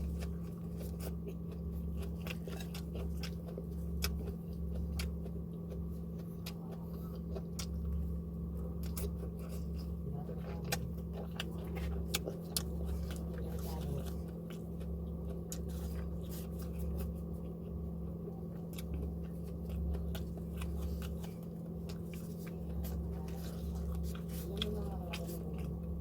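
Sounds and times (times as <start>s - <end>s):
person chewing crunchy food: 0.0s - 26.0s
steady low hum: 0.0s - 26.0s.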